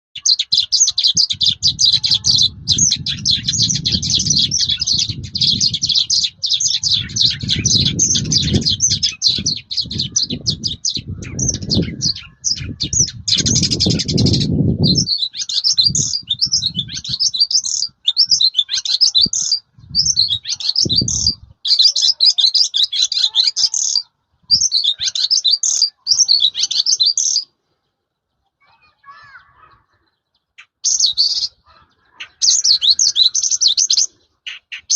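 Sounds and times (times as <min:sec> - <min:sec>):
lark singing: 0:00.2 - 0:27.6, 0:28.8 - 0:34.9.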